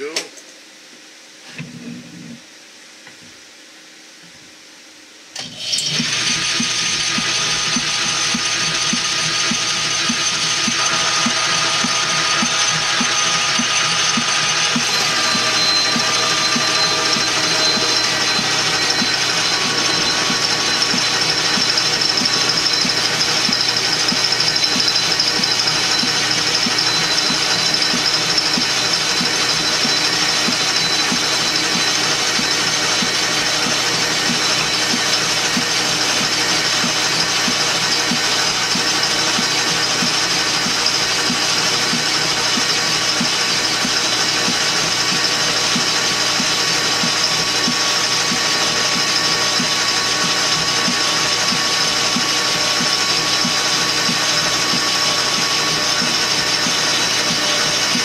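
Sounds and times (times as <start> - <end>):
high whine: 0.0 - 58.0
metal lathe running: 5.4 - 58.0.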